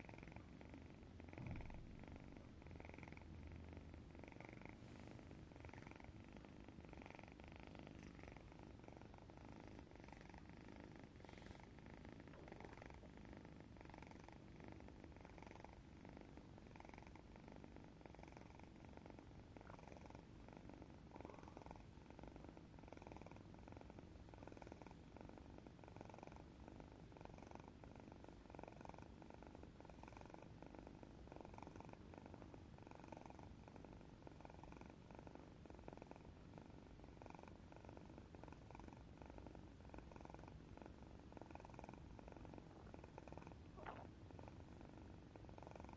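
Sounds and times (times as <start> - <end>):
cat snoring faintly: 0.0 - 45.9.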